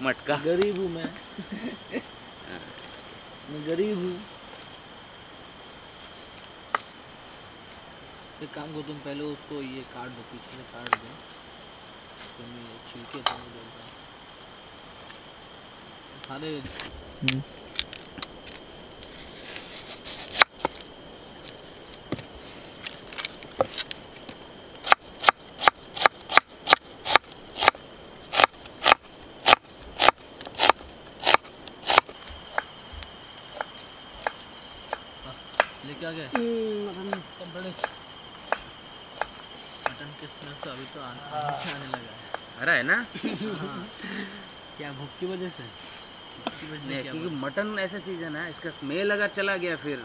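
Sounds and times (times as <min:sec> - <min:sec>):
crickets chirring: 0:00.0 - 0:50.0.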